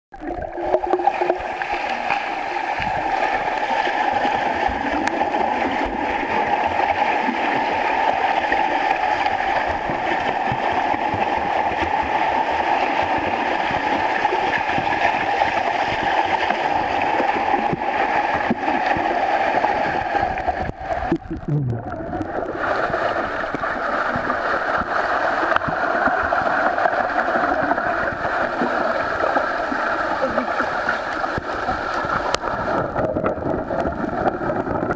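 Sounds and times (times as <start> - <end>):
rushing gurgling water: 0.1 - 34.9.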